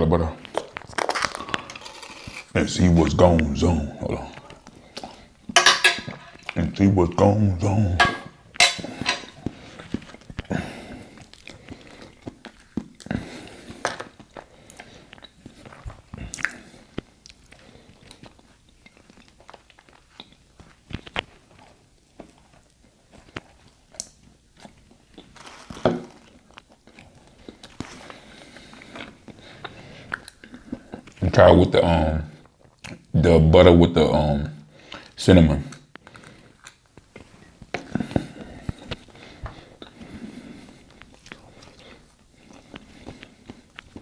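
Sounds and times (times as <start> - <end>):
person chewing bread: 0.4 - 5.6, 7.7 - 31.3, 32.3 - 33.1, 34.7 - 44.0.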